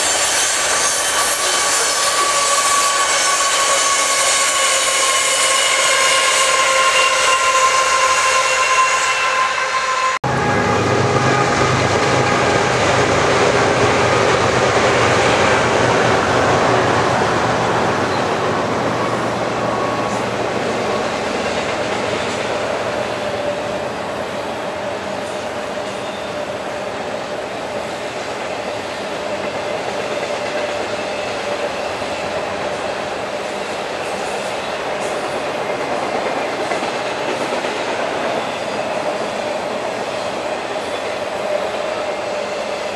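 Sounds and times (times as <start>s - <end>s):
diesel locomotive engine drone: 0.0s - 42.9s.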